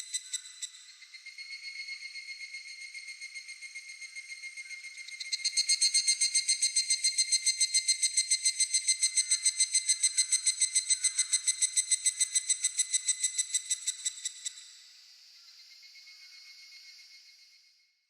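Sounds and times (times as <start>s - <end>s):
insect chorus: 0.0s - 17.8s.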